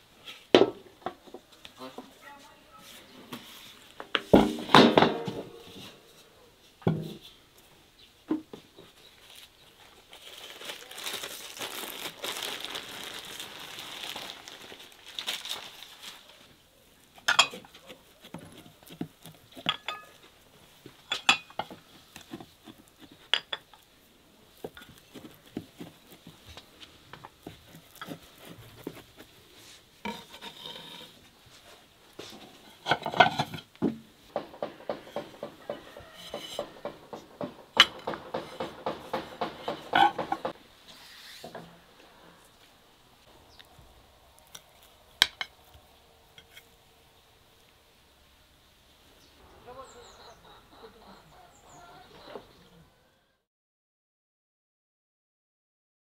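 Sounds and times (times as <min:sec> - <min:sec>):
rustling and scraping: 0:00.2 - 0:07.7, 0:08.4 - 0:46.8.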